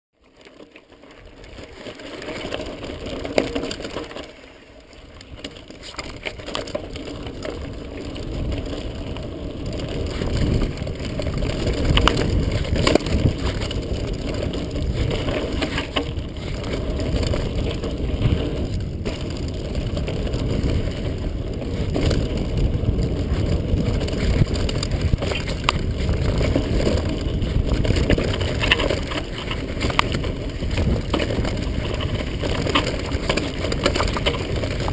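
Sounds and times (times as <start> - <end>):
low rumble of tyres on dirt: 0.1 - 34.9
wind: 0.1 - 34.9
bike rattling and knocking: 0.2 - 34.9.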